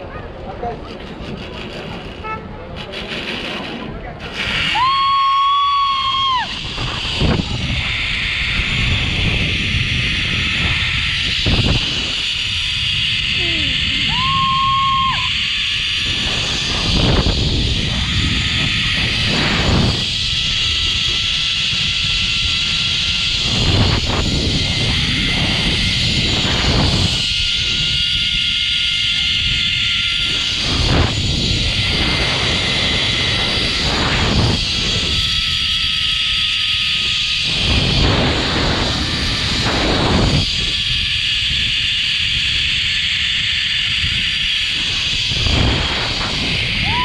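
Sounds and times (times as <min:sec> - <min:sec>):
wind rushing over microphone: 0:00.0 - 0:47.0
zipline trolley whirring on cable: 0:00.0 - 0:47.0.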